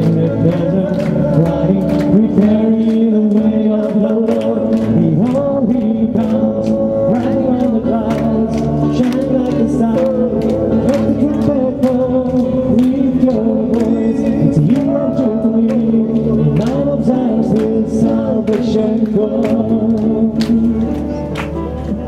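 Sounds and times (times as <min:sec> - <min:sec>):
man singing into a microphone: 0:00.0 - 0:22.0
people clapping along: 0:00.0 - 0:22.0.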